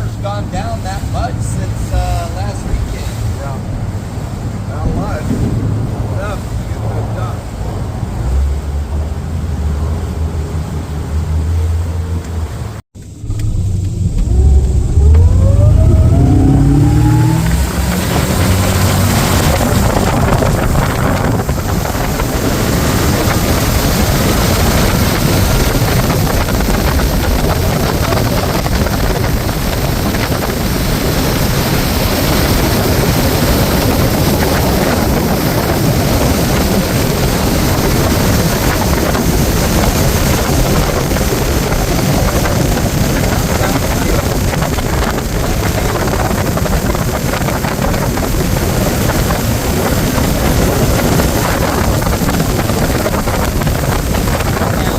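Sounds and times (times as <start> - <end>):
motorboat engine revving: 0.0 - 54.9
wind and water rushing: 0.0 - 54.9.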